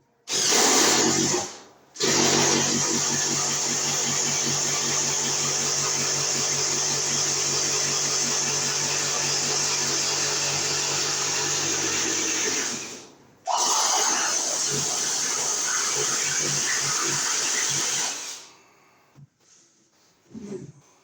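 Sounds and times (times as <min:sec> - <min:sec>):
electric drill boring: 0:00.3 - 0:18.5.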